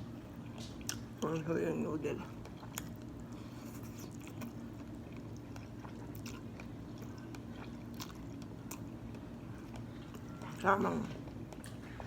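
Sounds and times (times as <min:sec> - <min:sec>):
steady low hum: 0:00.0 - 0:12.0
person chewing noodles: 0:00.3 - 0:01.4, 0:02.2 - 0:12.0.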